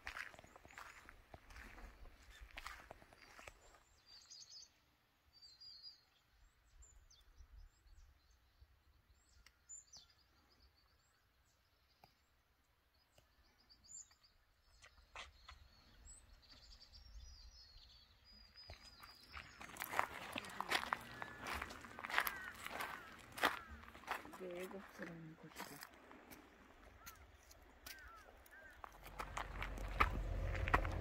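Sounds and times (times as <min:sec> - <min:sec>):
small birds chirping and trilling: 0:00.0 - 0:30.9.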